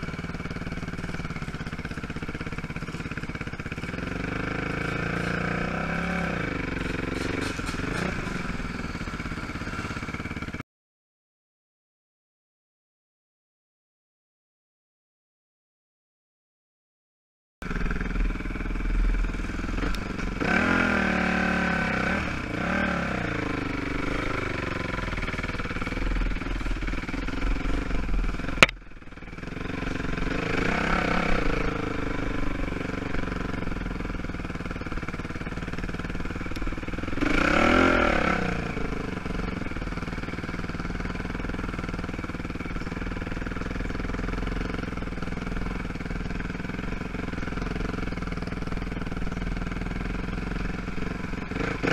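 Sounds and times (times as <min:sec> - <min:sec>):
quad engine revving: 0:00.0 - 0:10.6, 0:17.6 - 0:51.9.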